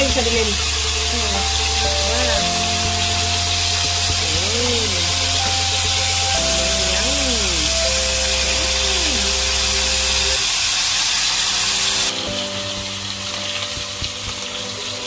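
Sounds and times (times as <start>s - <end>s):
background music: 0.0s - 15.0s
meat sizzling in a frying pan: 0.0s - 15.0s.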